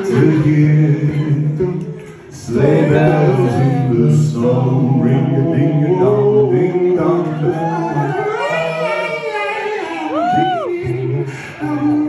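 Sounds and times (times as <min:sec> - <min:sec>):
men singing into microphones: 0:00.0 - 0:12.0.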